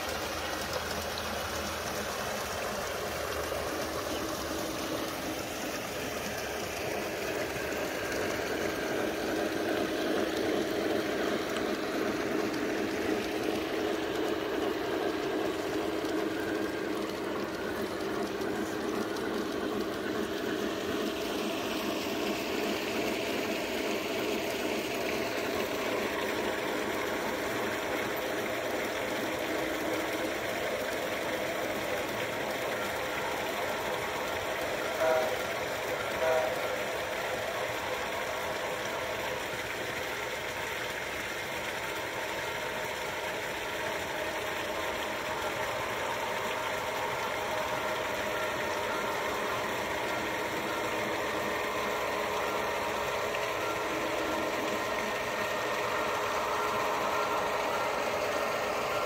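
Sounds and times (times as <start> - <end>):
model train running on track: 0.0 - 59.0
water splashing in pond: 0.0 - 59.0.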